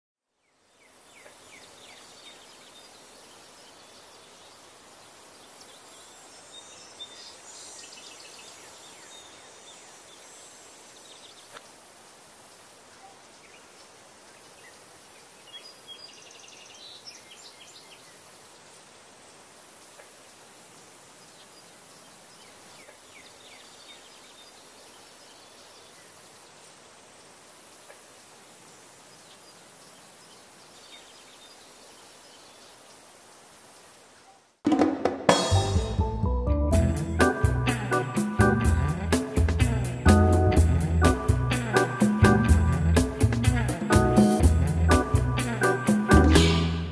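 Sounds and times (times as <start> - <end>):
steady hiss: 0.4 - 34.6, 36.8 - 46.9.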